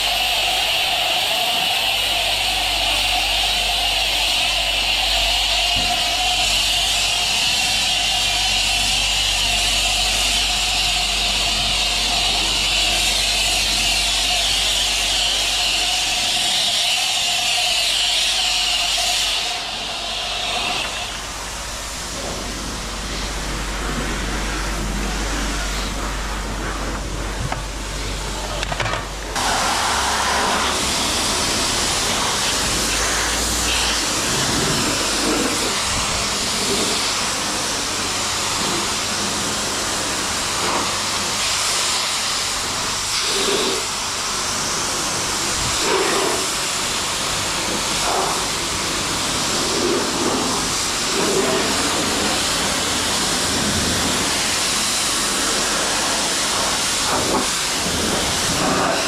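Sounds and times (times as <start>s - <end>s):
pressure washer spraying water: 0.0s - 59.0s.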